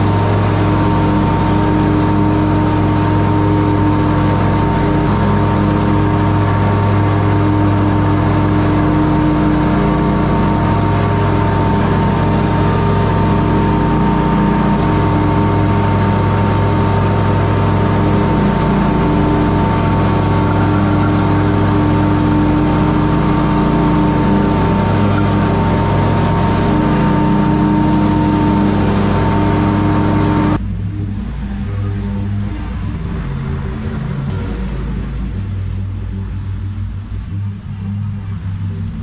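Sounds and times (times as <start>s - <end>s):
lawn mower engine running: 0.0s - 39.0s
mower whine: 0.0s - 39.0s.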